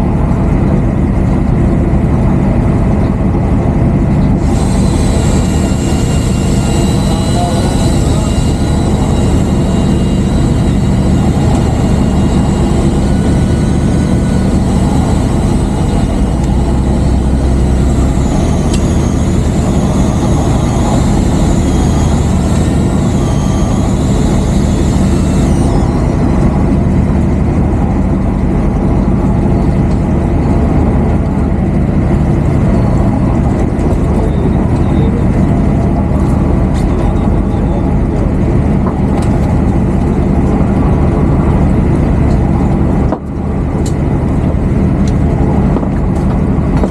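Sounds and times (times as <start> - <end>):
boat engine droning: 0.0 - 46.9
thin high whine: 3.1 - 46.9.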